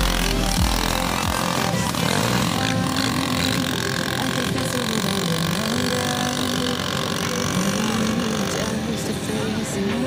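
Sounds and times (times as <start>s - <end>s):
quad bike engines revving: 0.0s - 10.0s.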